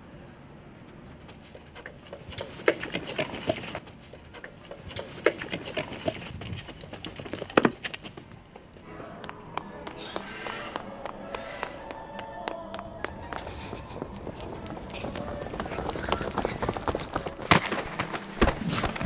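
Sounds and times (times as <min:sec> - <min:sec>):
running footsteps on gritty ground: 0:00.8 - 0:19.0.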